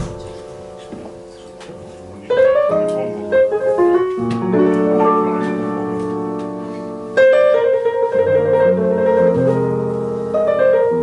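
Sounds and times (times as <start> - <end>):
solo jazz piano: 0.0 - 11.0.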